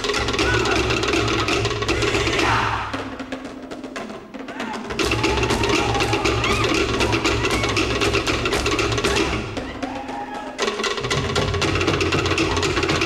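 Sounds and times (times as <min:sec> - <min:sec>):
skin drums steady beat: 0:00.0 - 0:13.0
wooden slit drums rapid strokes: 0:00.0 - 0:13.0.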